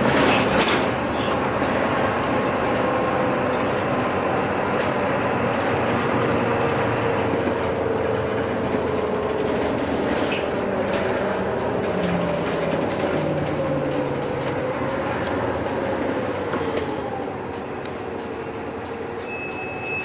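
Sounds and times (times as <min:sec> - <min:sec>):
bus drivetrain whine: 0:00.0 - 0:20.0
road noise: 0:00.0 - 0:20.0.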